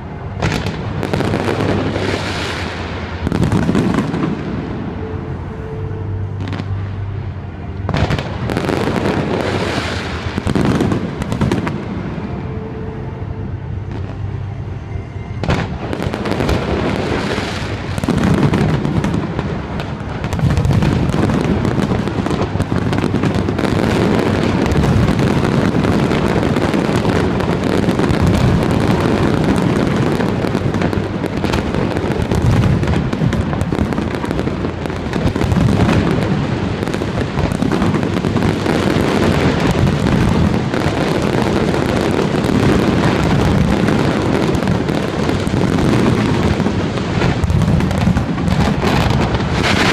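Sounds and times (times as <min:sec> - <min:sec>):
fireworks bursts and crackling: 0:00.0 - 0:14.6, 0:15.4 - 0:49.9.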